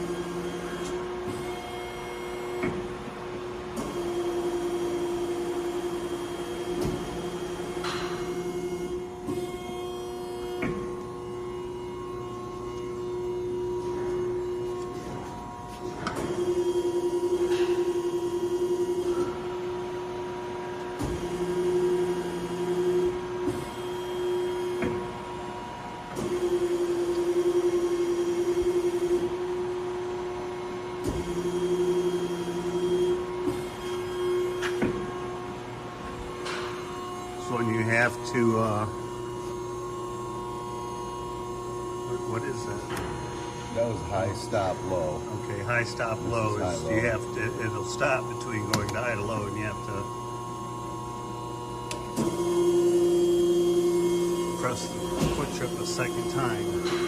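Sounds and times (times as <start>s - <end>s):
faint constant whine: 0.0s - 57.0s
hydraulic pump hum: 0.0s - 57.0s.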